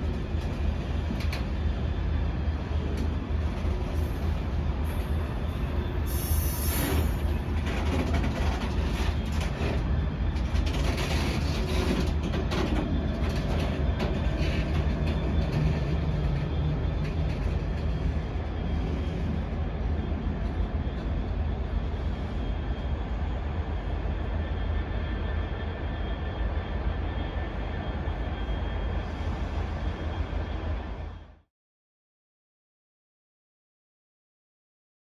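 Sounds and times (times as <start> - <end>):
freight train rumbling: 0.0 - 31.5.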